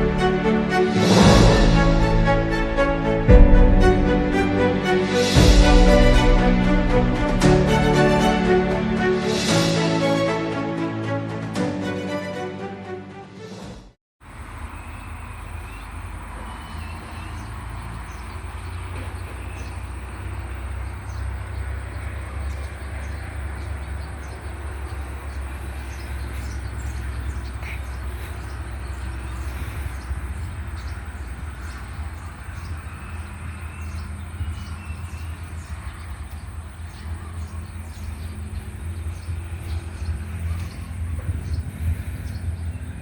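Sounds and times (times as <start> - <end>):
freight train rumbling past: 0.0 - 43.0
rail noise: 0.0 - 43.0.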